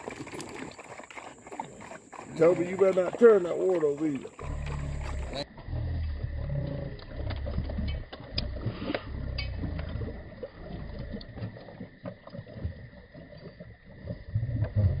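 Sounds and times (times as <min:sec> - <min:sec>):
wet clicks and splashes: 0:00.0 - 0:05.5, 0:06.6 - 0:14.8
dogs lapping water: 0:00.0 - 0:15.0.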